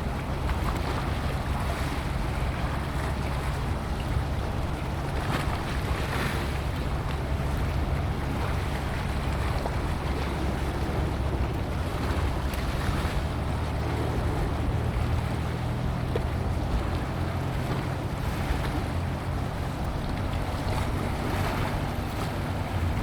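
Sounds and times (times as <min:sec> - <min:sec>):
ship engine droning: 0:00.0 - 0:23.0
wind buffeting microphone: 0:00.0 - 0:23.0.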